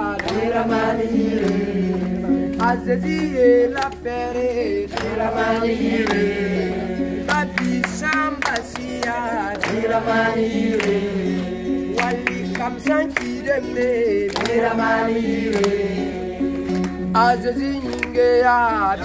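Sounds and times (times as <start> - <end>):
hand claps: 0.0 - 18.8
group singing gospel song: 0.0 - 19.0.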